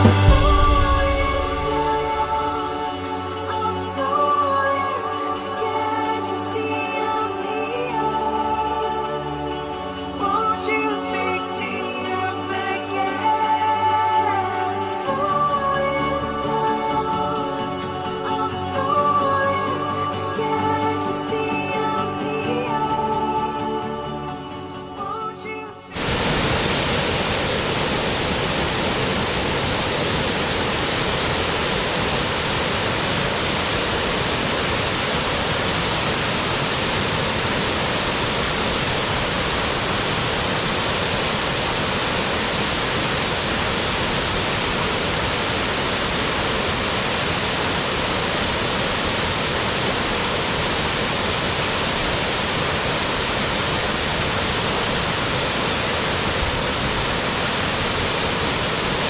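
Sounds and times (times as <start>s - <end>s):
waterfall rushing: 0.0s - 24.7s, 25.9s - 59.0s.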